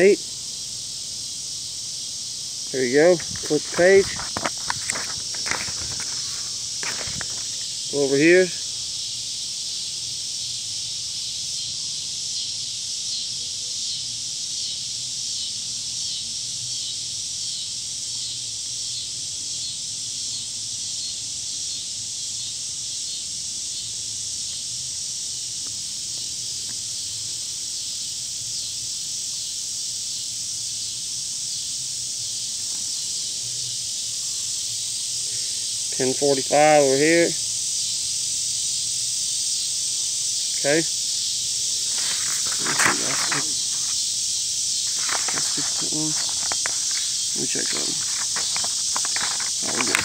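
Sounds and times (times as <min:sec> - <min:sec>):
high-pitched hiss: 0:00.0 - 0:50.0.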